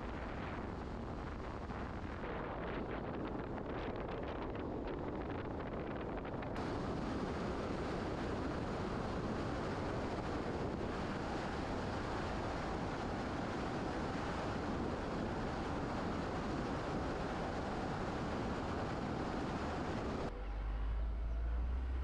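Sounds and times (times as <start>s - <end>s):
steady rushing noise: 0.0s - 20.4s.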